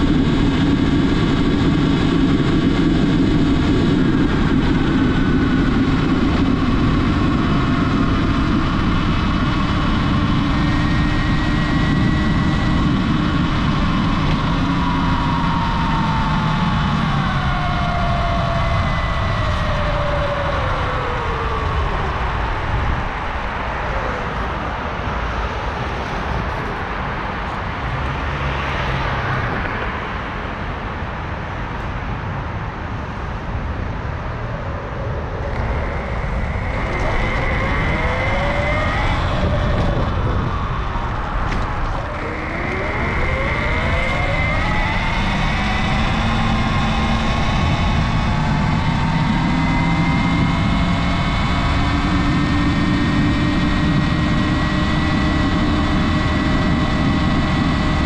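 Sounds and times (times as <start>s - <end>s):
electric dirt bike whine: 0.0s - 27.0s, 34.4s - 58.0s
low rushing noise: 0.0s - 58.0s.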